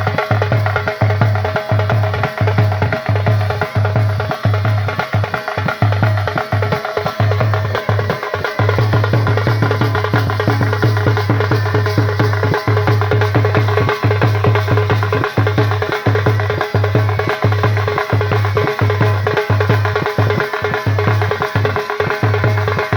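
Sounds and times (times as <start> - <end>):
fast driving drumming: 0.0 - 22.9.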